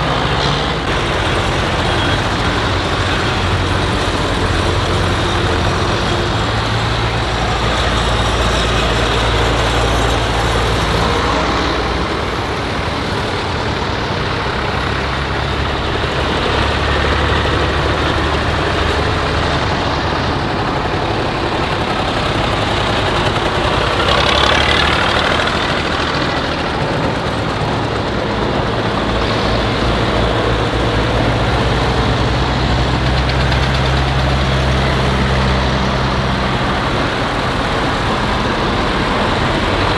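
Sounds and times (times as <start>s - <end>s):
tractor and truck engines passing: 0.0s - 39.9s.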